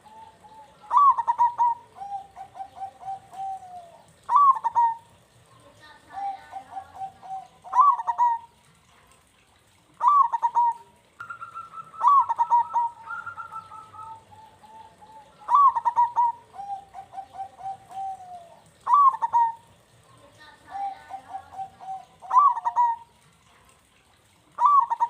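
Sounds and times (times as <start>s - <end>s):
doves cooing: 0.0s - 8.7s, 9.8s - 23.5s, 24.2s - 25.0s.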